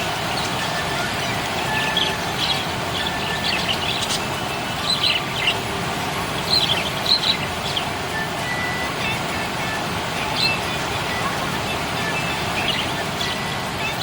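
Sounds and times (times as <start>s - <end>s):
steady background noise: 0.0s - 14.0s
budgerigars chirping: 0.2s - 14.0s.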